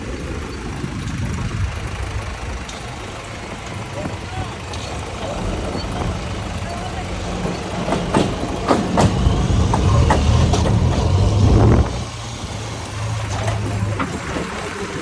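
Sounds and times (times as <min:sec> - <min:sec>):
diesel engine working: 0:00.0 - 0:15.0.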